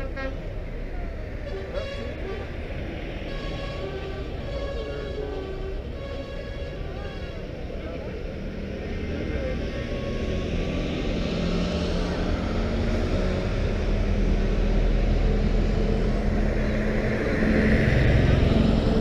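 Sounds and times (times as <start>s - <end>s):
diesel lorries driving past: 0.0s - 19.0s.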